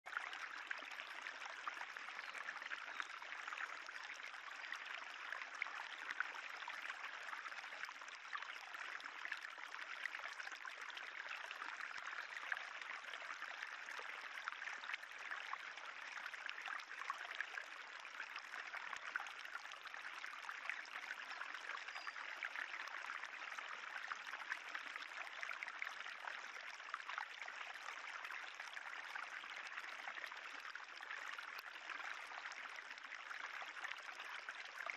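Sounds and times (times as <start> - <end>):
water trickling: 0.1 - 34.9.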